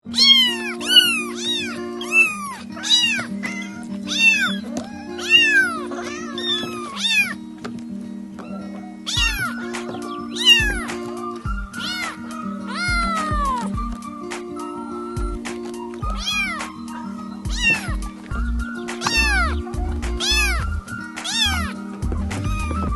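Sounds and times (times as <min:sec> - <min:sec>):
kittens meowing: 0:00.1 - 0:07.4, 0:08.4 - 0:22.9
background music with held chords: 0:00.1 - 0:22.9.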